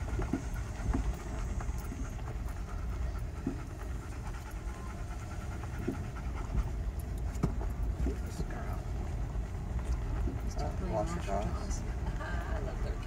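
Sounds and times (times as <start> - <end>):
gravel ticking under tyres: 0.0 - 13.0.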